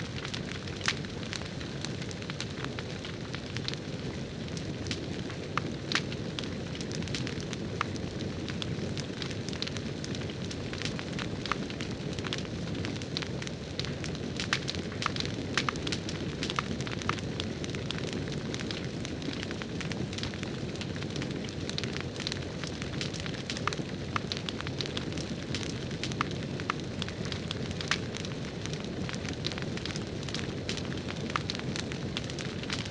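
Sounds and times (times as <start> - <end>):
campfire crackling with pops: 0.0 - 32.9.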